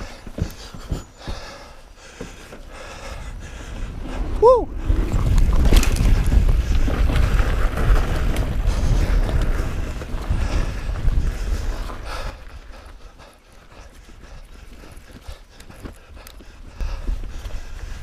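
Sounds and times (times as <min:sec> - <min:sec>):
bike tyres rumbling on dirt: 0:00.0 - 0:18.0
wind buffeting microphone: 0:02.7 - 0:18.0.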